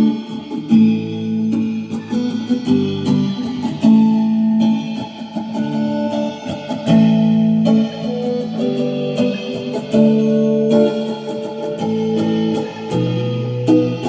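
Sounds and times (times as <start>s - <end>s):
guitar playing chords and notes: 0.0s - 14.0s.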